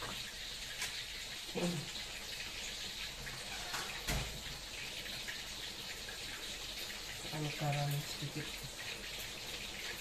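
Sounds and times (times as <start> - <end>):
stew simmering in a wok: 0.0 - 10.0.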